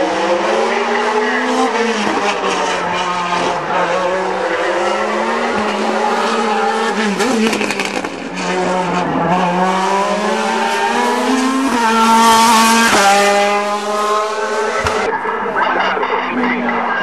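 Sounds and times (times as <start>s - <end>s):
race car engine accelerating: 0.0s - 15.2s.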